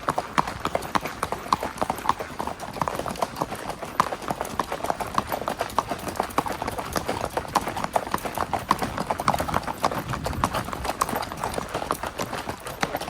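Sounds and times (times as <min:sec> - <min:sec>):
horse hoofbeats: 0:00.0 - 0:13.0.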